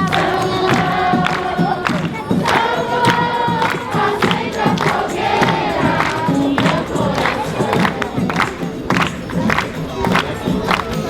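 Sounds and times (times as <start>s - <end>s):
group of voices singing: 0.0s - 11.0s
steady percussion beat: 0.0s - 11.0s.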